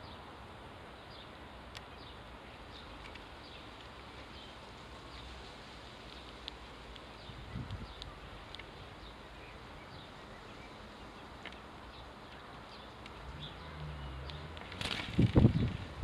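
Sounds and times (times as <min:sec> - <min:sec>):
garden background noise: 0:00.0 - 0:16.0
rustle: 0:00.0 - 0:16.0.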